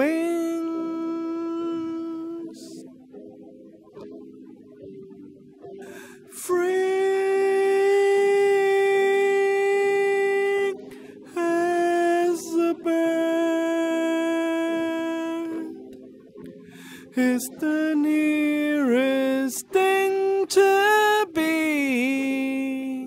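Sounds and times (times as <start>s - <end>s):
person singing wordless notes: 0.0s - 3.4s, 5.6s - 23.0s.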